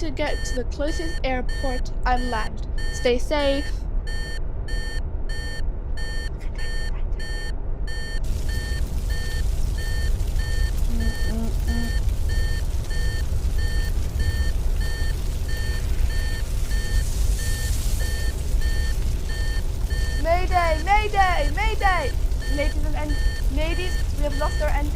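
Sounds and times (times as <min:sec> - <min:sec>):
electronic warning alarm beeping: 0:00.2 - 0:24.9
low engine rumble: 0:02.3 - 0:24.9.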